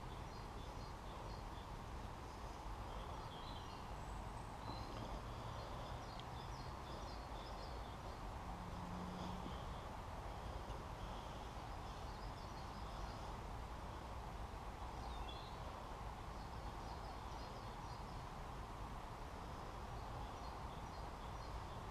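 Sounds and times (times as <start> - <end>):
low outdoor rumble: 0.0 - 21.9
small birds chirping: 0.0 - 21.9.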